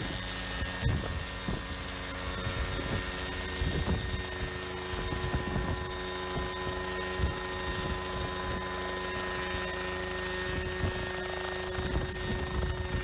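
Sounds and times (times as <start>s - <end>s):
helicopter engine and rotors whining: 0.0s - 13.0s.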